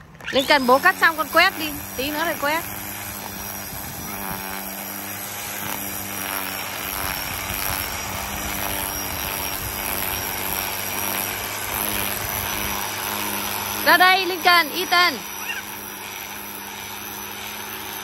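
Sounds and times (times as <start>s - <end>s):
electric string trimmer whirring: 0.0s - 18.0s.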